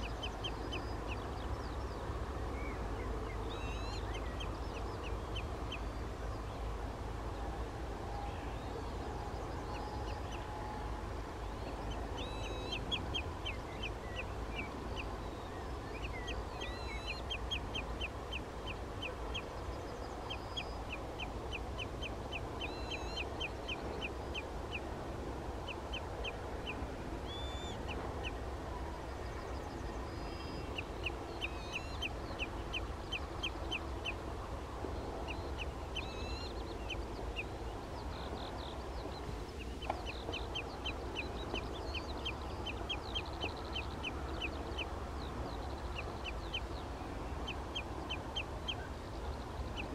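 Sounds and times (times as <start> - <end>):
bird piping calls: 2.6 - 6.5, 8.1 - 24.9, 25.6 - 34.2, 34.9 - 49.9.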